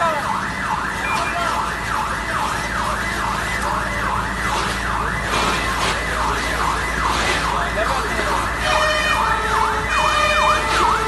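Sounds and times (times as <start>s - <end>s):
siren yelping: 0.0s - 11.0s.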